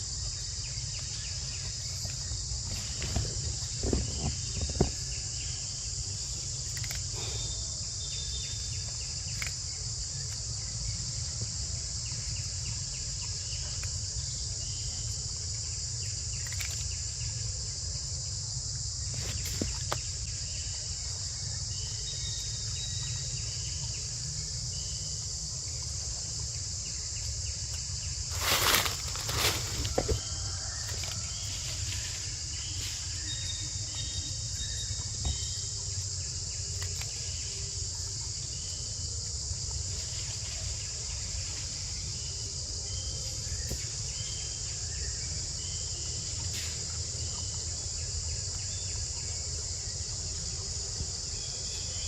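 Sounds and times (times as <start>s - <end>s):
insect chorus: 0.0s - 52.0s.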